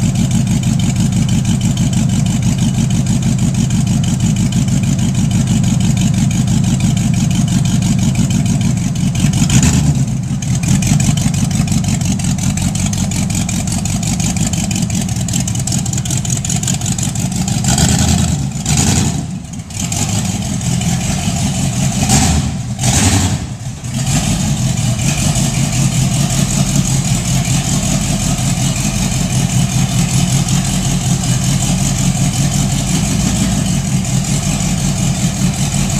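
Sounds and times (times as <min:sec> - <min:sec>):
car engine idling loudly: 0:00.0 - 0:35.9
engine throttle blips: 0:04.8 - 0:35.9.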